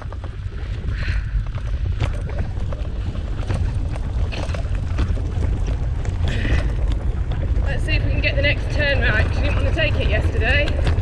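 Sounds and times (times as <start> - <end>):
rattles and knocks from bumps: 0.0 - 11.0
wheeled rig rumbling on dirt: 0.0 - 11.0
wind on microphone: 0.0 - 11.0.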